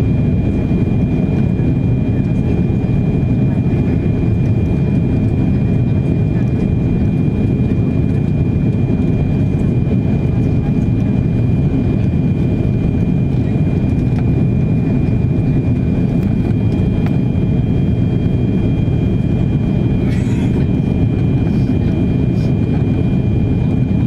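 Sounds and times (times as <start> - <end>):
airplane cabin rumble: 0.0 - 24.0
high-pitched engine whine: 0.0 - 24.0.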